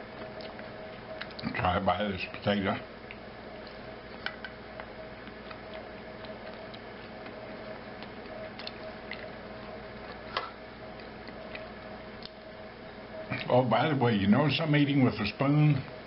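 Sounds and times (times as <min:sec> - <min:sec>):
room hum with faint tone: 0:00.0 - 0:16.0.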